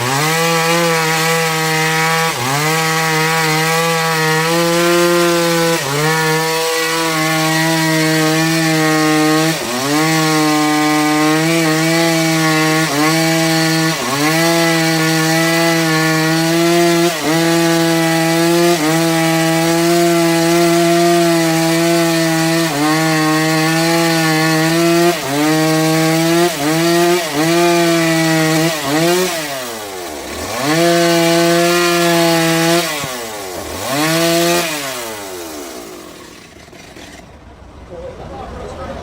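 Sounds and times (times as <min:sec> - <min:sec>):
bandsaw cutting log: 0:00.0 - 0:37.5.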